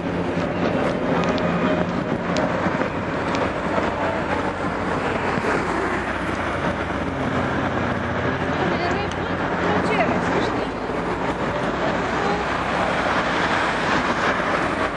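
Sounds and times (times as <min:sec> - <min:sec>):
city street traffic: 0:00.0 - 0:14.9.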